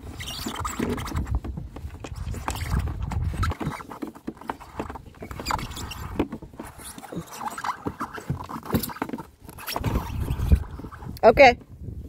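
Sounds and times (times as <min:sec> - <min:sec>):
rubber cable rustling and scuffing: 0:00.0 - 0:11.2.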